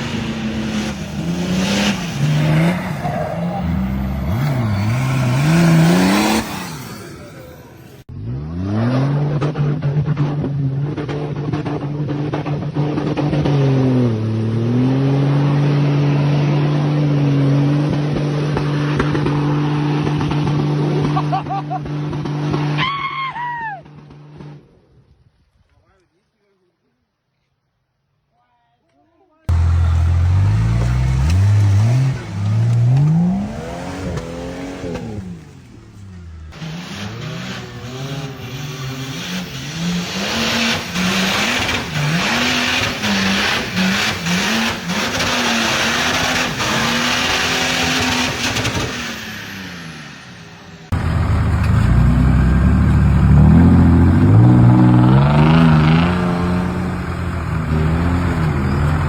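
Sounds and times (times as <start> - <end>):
off-road engines revving: 0.0 - 23.2, 29.5 - 59.0.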